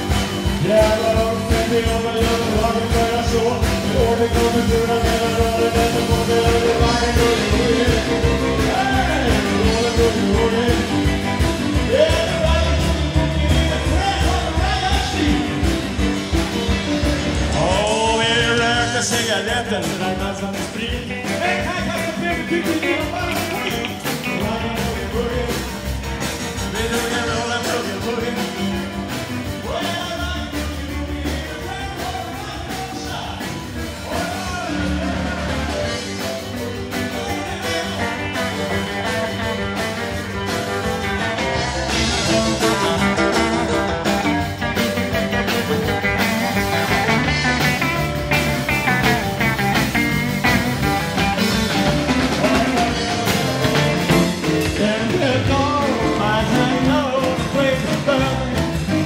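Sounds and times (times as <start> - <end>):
electric guitar: 0.0 - 59.0
live rock and roll band: 0.0 - 59.0.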